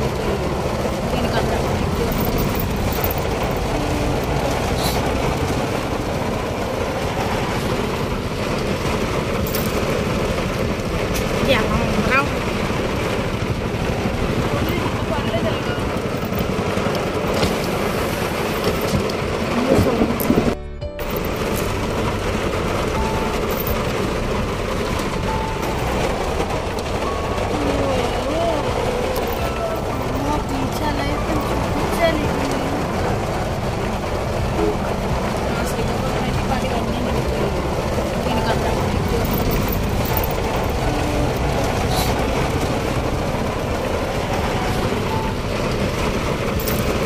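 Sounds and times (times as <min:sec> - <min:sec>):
car road noise: 0:00.0 - 0:47.0
heavy rain on a car: 0:00.0 - 0:47.0.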